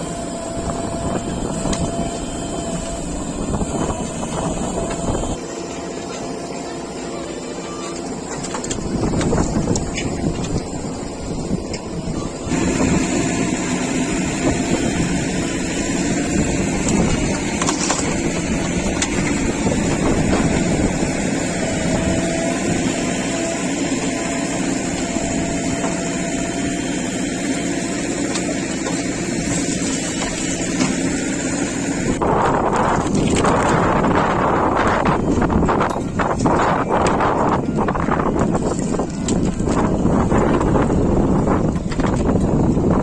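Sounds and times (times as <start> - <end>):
diesel engine running: 0.0 - 43.0
faint whine: 0.0 - 43.0.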